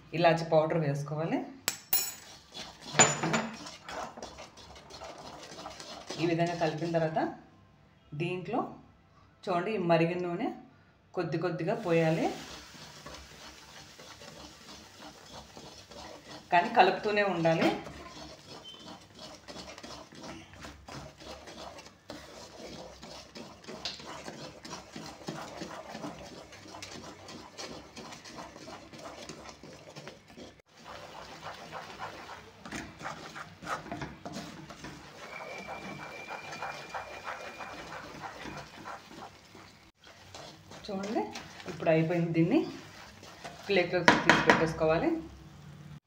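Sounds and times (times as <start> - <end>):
wooden spatula scraping pan: 2.2 - 7.2, 11.8 - 44.8.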